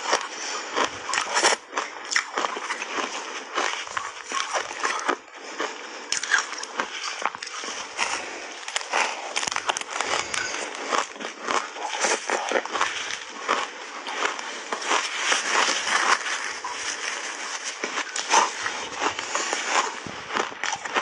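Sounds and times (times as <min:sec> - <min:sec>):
ice crunching while chewed: 0:00.0 - 0:21.0.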